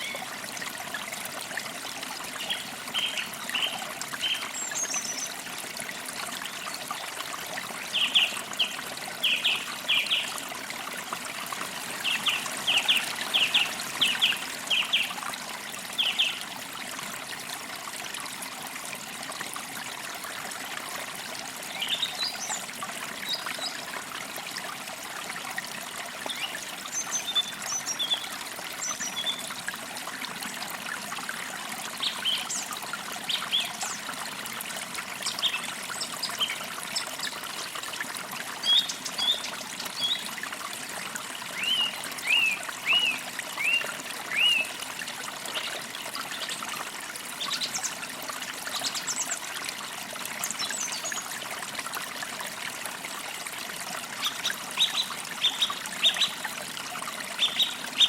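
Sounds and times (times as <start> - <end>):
creek trickling: 0.0 - 58.0.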